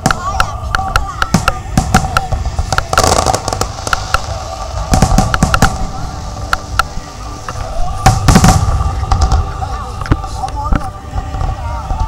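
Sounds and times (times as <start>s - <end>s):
fireworks bursting with bangs: 0.0s - 11.6s
fireworks crackle: 0.0s - 12.0s.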